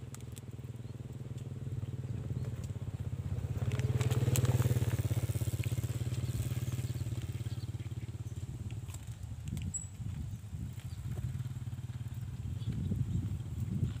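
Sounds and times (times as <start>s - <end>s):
small engine running: 0.6s - 14.0s.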